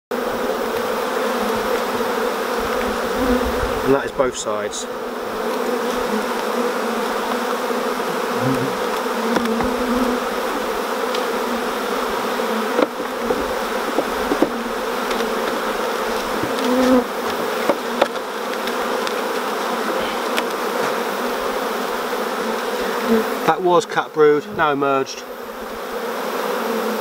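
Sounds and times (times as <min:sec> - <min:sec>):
honeybees buzzing: 0:00.1 - 0:27.0.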